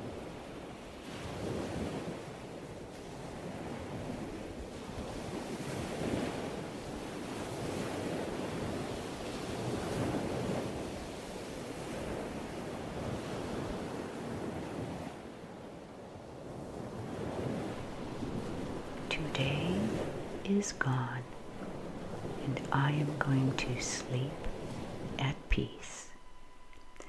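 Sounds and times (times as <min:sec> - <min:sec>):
waves breaking: 0:00.0 - 0:27.0.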